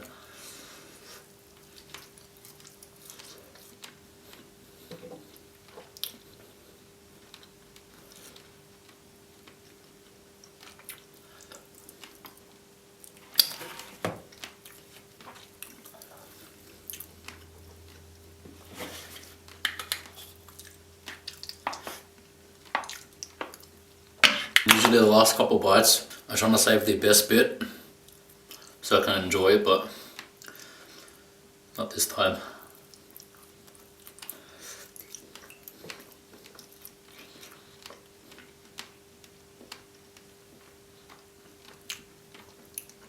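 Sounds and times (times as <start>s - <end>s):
faint steady hum: 0.0s - 43.0s
person chewing food: 0.1s - 24.7s, 28.0s - 28.8s, 30.0s - 31.4s, 32.6s - 43.0s.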